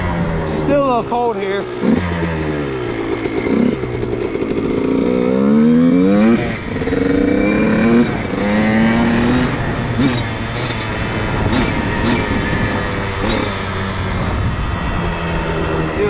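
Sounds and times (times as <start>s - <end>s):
two-stroke dirt bike engine accelerating: 0.0s - 16.0s.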